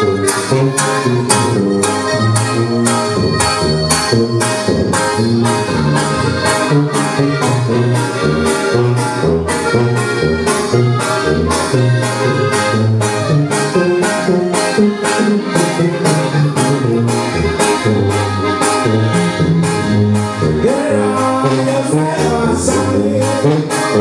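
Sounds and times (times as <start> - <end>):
button accordion melody: 0.0 - 24.0
electric bass: 0.0 - 24.0
guitar: 0.0 - 24.0
sousaphone bass line: 0.0 - 24.0.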